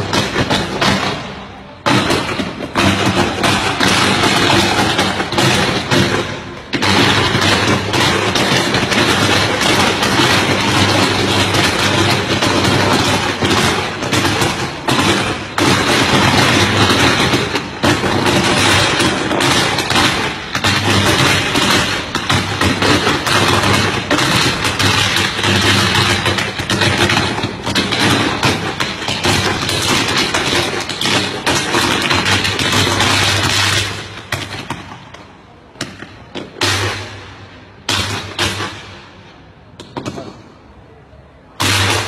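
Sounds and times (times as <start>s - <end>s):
firecrackers crackling: 0.0s - 42.0s.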